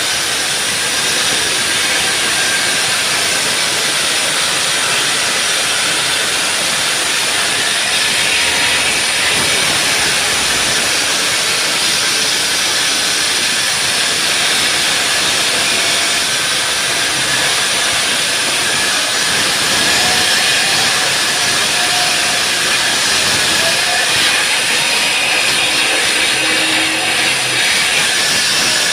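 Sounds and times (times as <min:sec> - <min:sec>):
concrete saw cutting concrete: 0:00.0 - 0:28.9.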